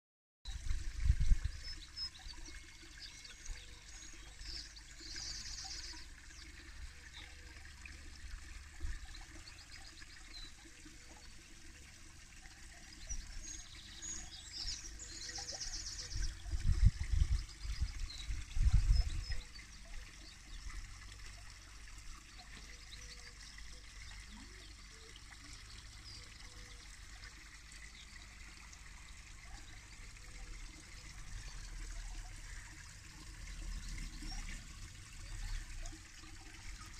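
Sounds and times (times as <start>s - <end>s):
waterfall splashing into pond: 0.5s - 36.9s.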